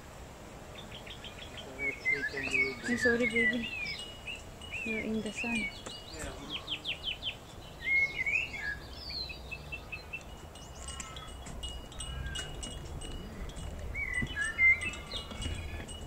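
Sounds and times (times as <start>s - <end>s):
low wind rumble: 0.0s - 16.0s
small birds chirping: 0.5s - 16.0s.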